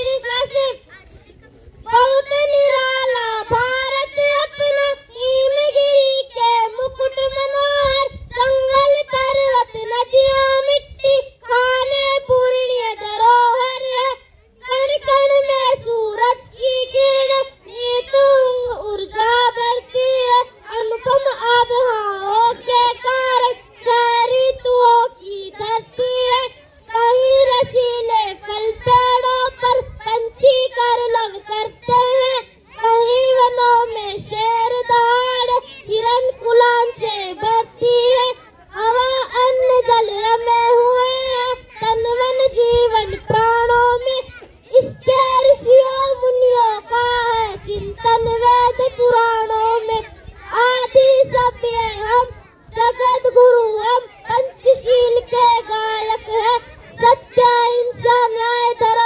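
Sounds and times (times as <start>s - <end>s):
boy singing: 0.0s - 0.8s, 1.9s - 59.0s.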